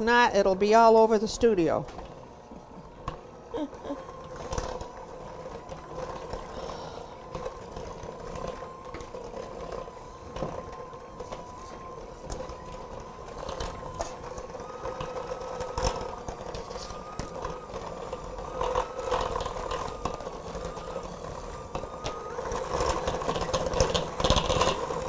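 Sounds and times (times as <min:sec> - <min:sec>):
electric mixer motor whine: 0:00.0 - 0:25.0.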